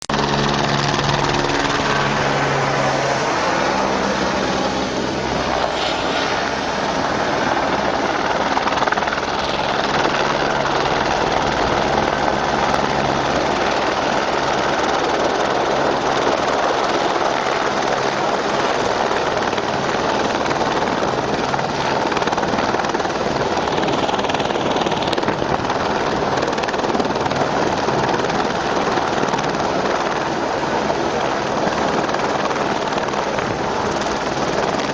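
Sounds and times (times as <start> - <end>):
helicopter rotor and engine: 0.0 - 34.9.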